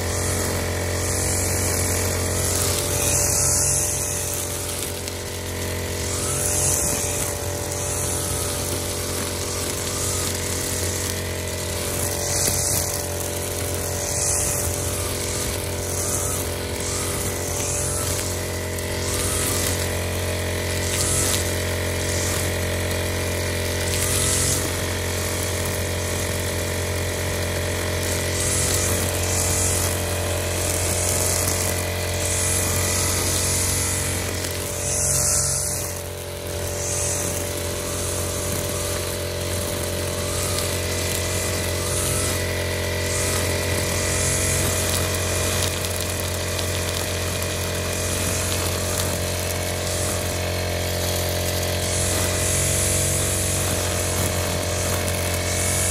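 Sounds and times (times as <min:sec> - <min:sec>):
cutter head swishing through grass: 0:00.0 - 0:26.5, 0:27.3 - 0:55.9
brush cutter engine running: 0:00.0 - 0:55.9.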